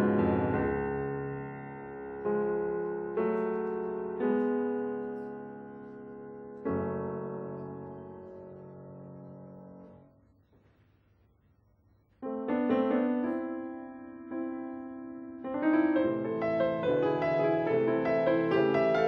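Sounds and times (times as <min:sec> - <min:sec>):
grand piano playing: 0:00.0 - 0:10.0, 0:12.2 - 0:19.0.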